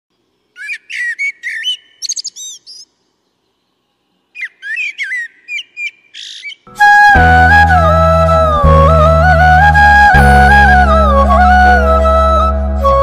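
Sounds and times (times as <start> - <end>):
songbird singing: 0.1 - 13.0.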